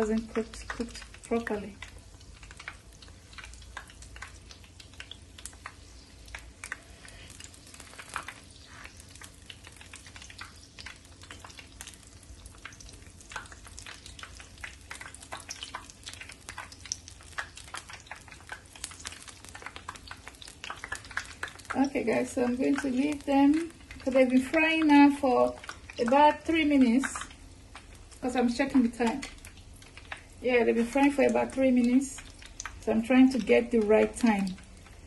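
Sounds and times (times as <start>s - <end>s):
food frying in hot oil: 0.0s - 35.0s.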